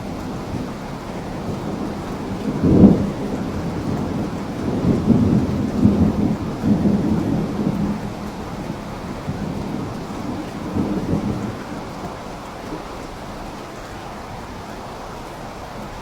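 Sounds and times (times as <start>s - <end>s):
thunder rumbling: 0.0s - 14.6s
steady rain: 0.0s - 16.0s.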